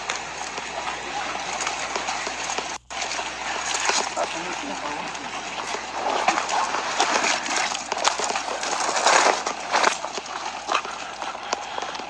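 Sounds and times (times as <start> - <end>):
footsteps on rough ground: 0.0 - 12.0.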